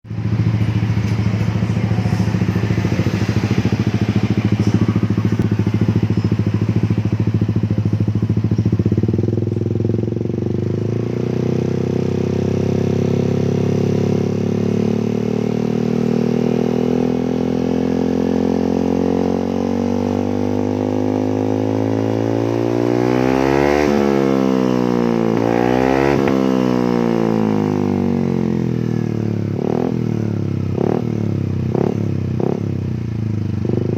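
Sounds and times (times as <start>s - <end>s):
scooter engine revving: 0.1s - 33.9s.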